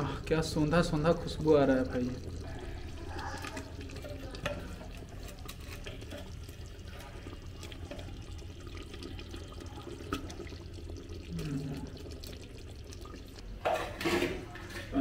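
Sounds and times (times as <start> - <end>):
ladle stirring thick food: 0.0 - 15.0.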